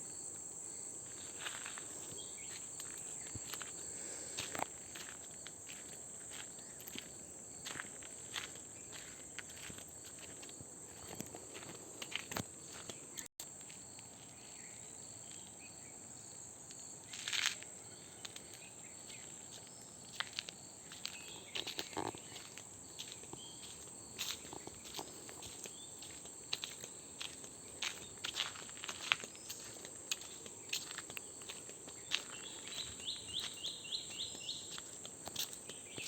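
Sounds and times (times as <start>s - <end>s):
insects chirring: 0.0s - 36.0s
footsteps and scuffs: 1.1s - 14.4s, 17.2s - 36.0s.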